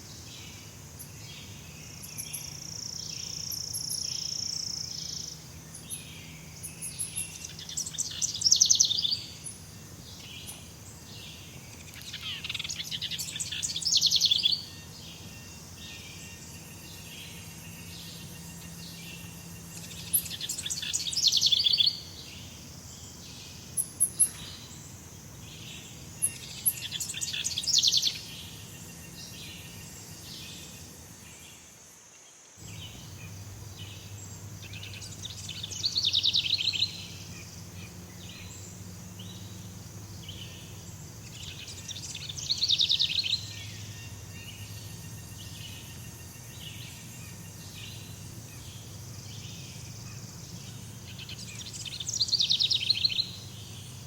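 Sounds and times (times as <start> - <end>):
bird singing rapid notes: 0.0 - 31.3, 32.6 - 54.0
insects chorus: 0.0 - 54.0.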